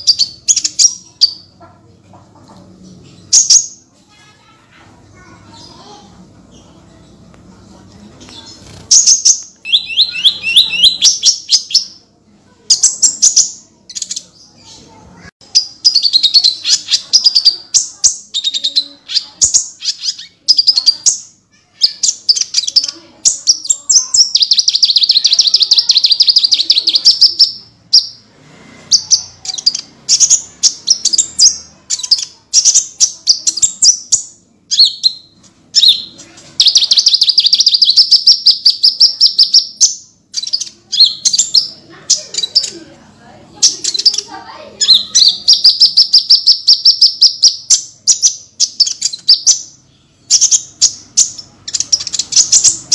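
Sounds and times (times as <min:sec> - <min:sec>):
bird chattering and trilling: 0:00.0 - 0:07.6, 0:08.2 - 0:52.9.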